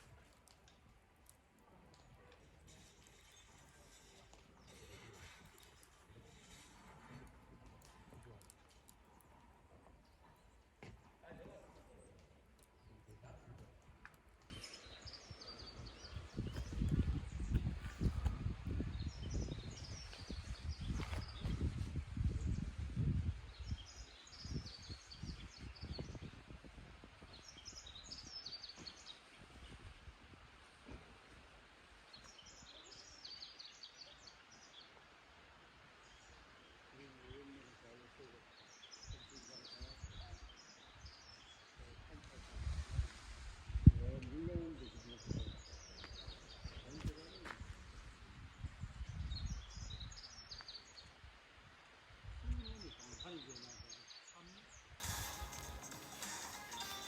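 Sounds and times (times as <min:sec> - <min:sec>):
small birds chirping: 0:00.2 - 0:26.6, 0:27.2 - 0:29.9, 0:32.1 - 0:35.0, 0:36.0 - 0:41.9, 0:44.3 - 0:51.2, 0:52.4 - 0:57.0.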